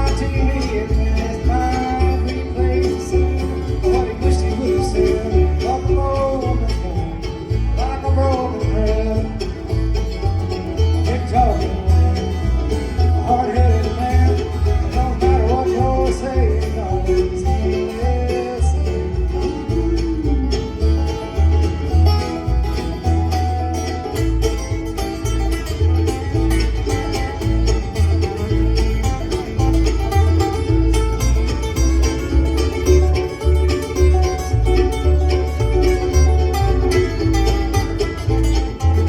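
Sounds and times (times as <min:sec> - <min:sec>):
bluegrass band playing: 0:00.0 - 0:39.0.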